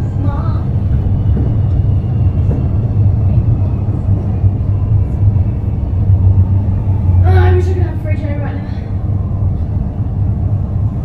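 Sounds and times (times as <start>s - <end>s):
electric train rumble: 0.0s - 11.0s
faint high whine: 0.0s - 11.0s.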